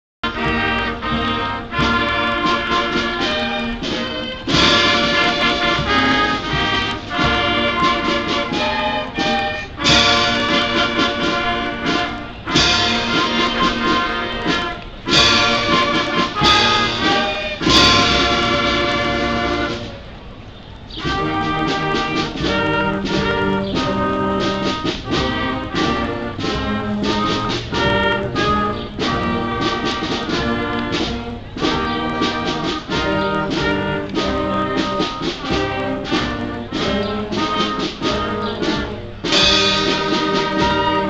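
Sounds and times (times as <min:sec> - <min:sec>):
concert band playing: 0:00.2 - 0:41.0
loud accented band chords: 0:00.2 - 0:41.0.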